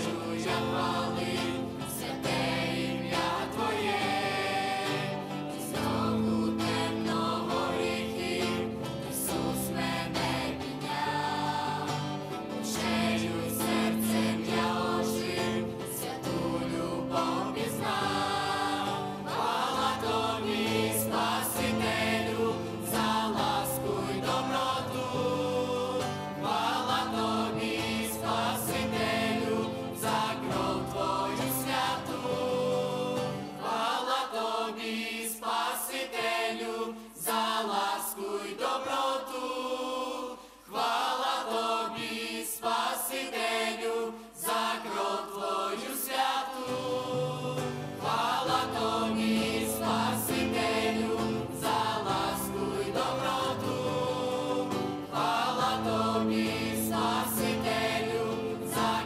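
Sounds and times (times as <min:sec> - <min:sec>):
choir singing worship song: 0:00.0 - 0:59.0.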